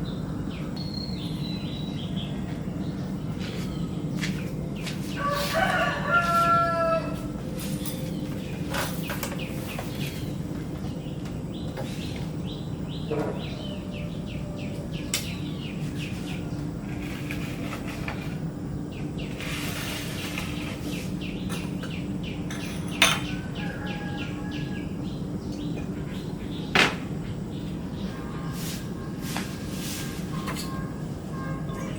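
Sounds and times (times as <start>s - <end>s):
small birds chirping: 0.0s - 6.4s, 7.5s - 31.9s
steady low hum: 0.0s - 6.4s, 7.0s - 31.9s.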